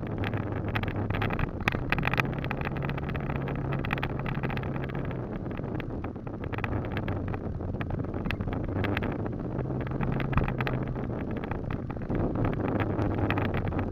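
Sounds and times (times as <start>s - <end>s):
small clicks and rattles: 0.0s - 13.9s
vehicle engine running: 0.0s - 13.9s.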